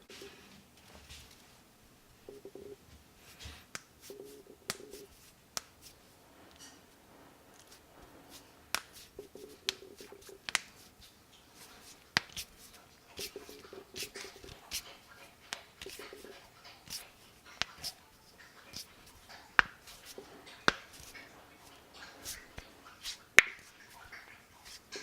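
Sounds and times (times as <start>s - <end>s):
faint low hum: 0.0s - 25.0s
knuckles cracking: 3.7s - 6.7s, 7.6s - 25.0s.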